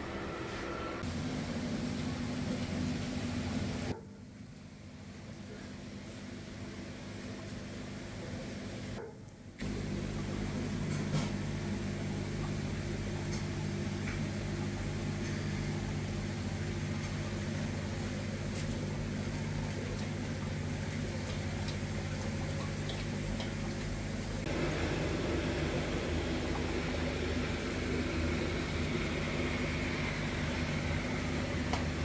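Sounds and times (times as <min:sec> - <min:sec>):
aquarium filter humming: 0:00.0 - 0:32.0.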